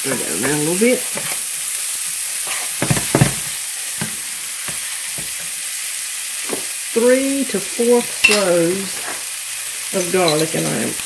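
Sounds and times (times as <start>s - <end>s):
vegetables and bacon sizzling: 0.0s - 11.0s.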